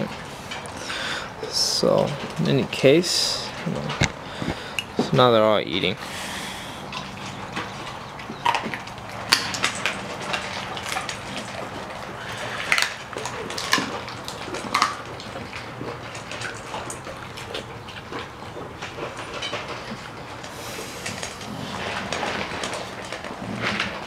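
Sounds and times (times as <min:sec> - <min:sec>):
dog bowls clinking: 0:00.0 - 0:06.1, 0:06.8 - 0:24.0
dogs eating wetly: 0:00.0 - 0:24.0.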